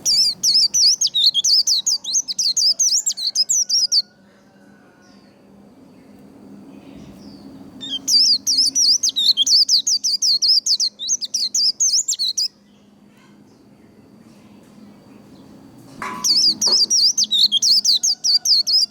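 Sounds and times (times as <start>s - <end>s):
bird twittering song: 0.0s - 4.1s, 6.8s - 18.9s.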